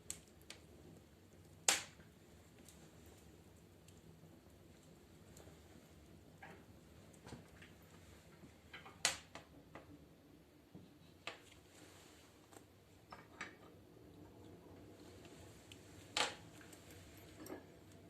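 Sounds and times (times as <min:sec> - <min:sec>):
wood fire crackling and popping: 0:00.0 - 0:09.8, 0:11.2 - 0:18.0.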